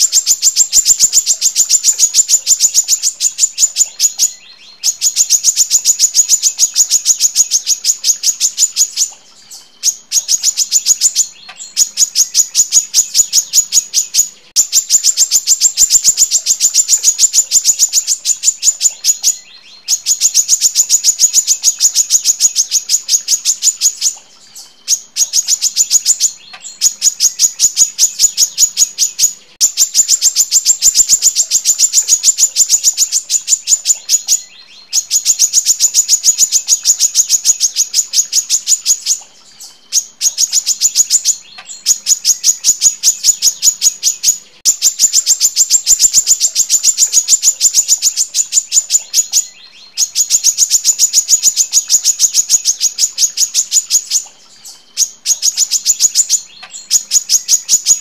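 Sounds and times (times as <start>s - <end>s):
sunbird chipping song: 0.0s - 58.0s.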